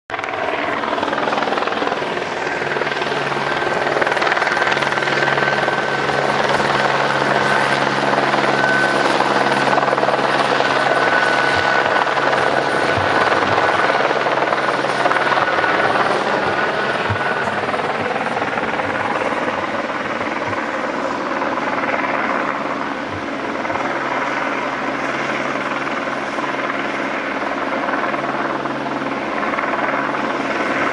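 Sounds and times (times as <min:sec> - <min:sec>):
helicopter rotor and engine: 0:00.1 - 0:30.9
high whine: 0:00.2 - 0:25.4.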